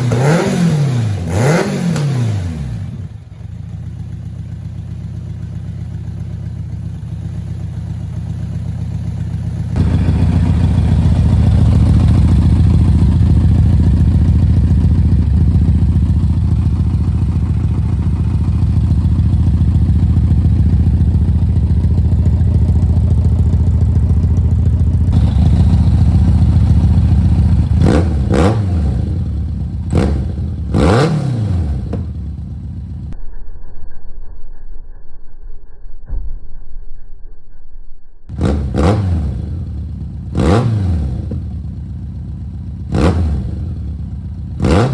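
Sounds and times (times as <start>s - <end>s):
motorcycle engine revving: 0.0s - 33.2s, 38.3s - 44.9s.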